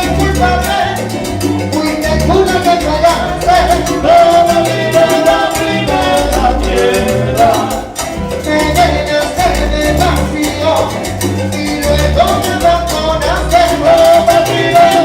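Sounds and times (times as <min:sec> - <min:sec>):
salsa band music: 0:00.0 - 0:15.0.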